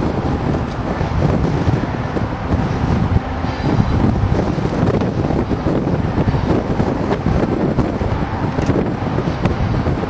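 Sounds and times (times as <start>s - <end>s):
distant freight train rumble: 0.0s - 10.0s
wind buffeting the microphone: 0.0s - 10.0s.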